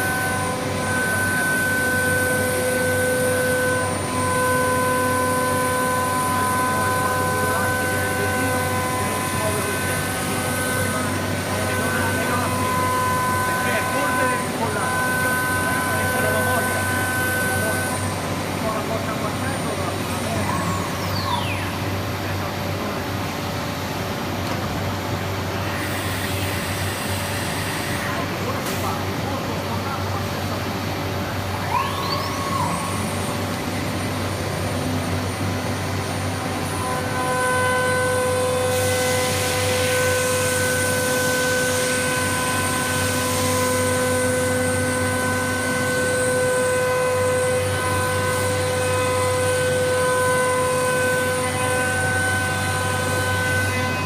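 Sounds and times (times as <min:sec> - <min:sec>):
router machine whining: 0:00.0 - 0:23.2, 0:25.6 - 0:29.0, 0:29.7 - 0:54.0.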